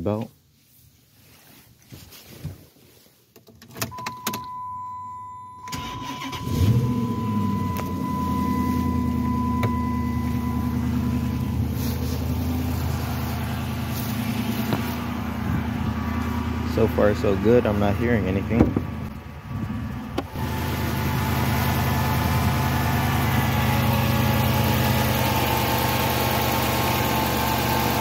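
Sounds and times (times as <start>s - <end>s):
car engine starting and idling: 3.7s - 28.0s.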